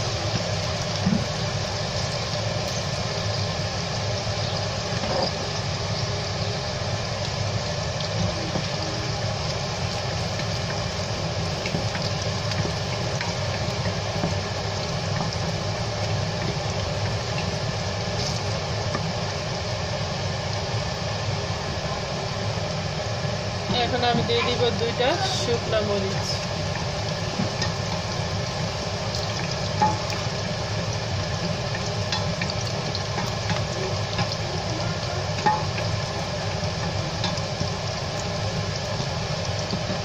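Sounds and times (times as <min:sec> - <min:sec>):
food frying in oil: 0:00.0 - 0:40.0
steady mechanical hum: 0:00.0 - 0:40.0.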